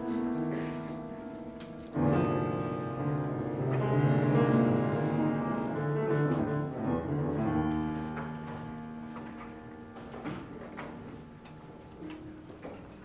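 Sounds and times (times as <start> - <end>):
piano playing chords and melody: 0.0 - 12.5.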